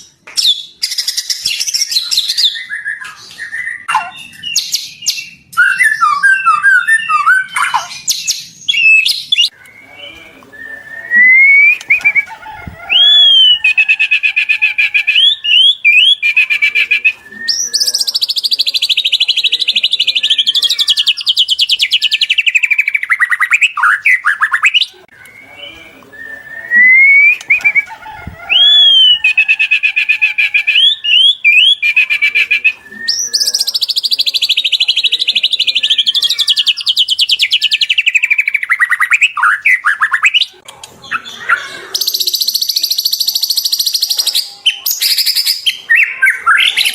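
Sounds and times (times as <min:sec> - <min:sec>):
bird singing varied song: 0:00.0 - 0:46.9.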